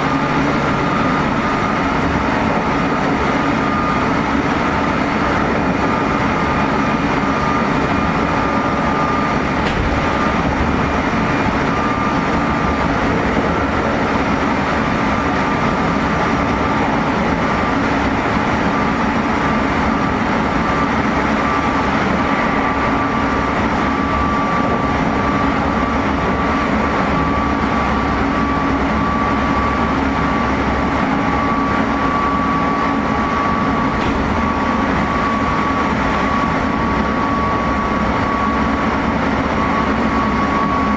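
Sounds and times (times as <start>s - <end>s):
high-pitched traction motor whine: 0.0s - 40.9s
train wheels rumbling on rails: 0.0s - 40.9s.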